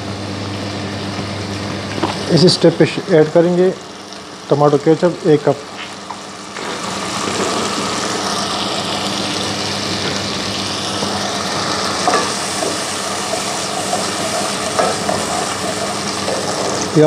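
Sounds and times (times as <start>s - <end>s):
sauce sizzling and bubbling: 0.1s - 17.0s.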